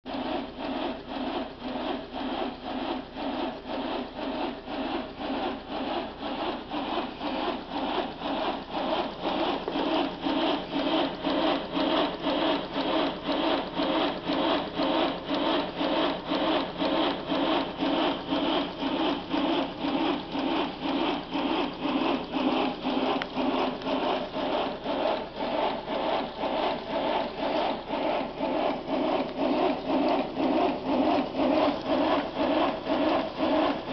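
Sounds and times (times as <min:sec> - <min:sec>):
rollers rasping under turning wheels: 0:00.1 - 0:33.9.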